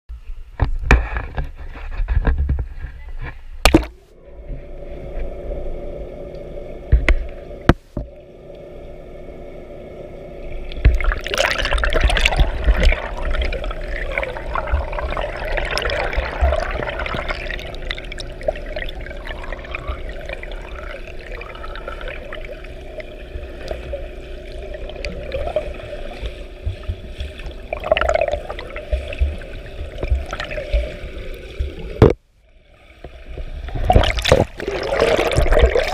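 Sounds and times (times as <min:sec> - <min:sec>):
underwater hum: 0:03.4 - 0:35.9
swimmer churning and bubbling water: 0:03.7 - 0:35.9.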